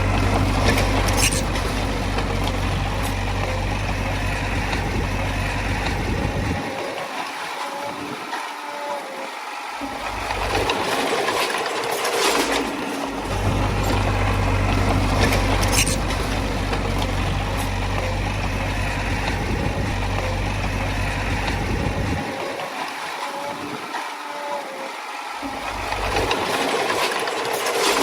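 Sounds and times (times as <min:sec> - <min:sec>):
diesel machinery engine drone: 0:00.0 - 0:07.3, 0:09.0 - 0:28.0.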